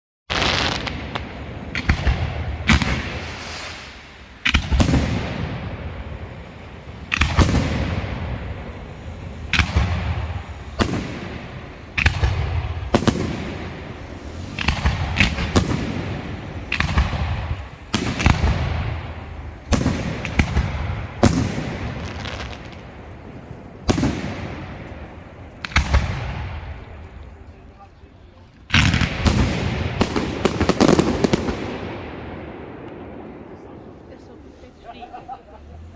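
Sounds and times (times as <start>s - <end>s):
fireworks banging: 0.3s - 35.9s
rumble after bangs: 0.4s - 35.9s.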